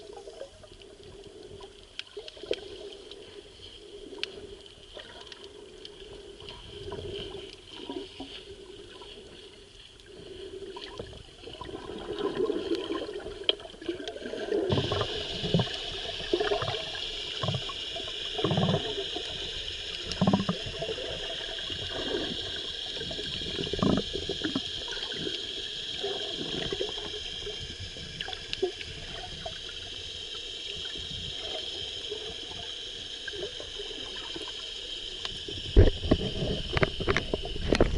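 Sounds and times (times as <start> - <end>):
muffled underwater sloshing and gurgling: 0.0 - 37.9.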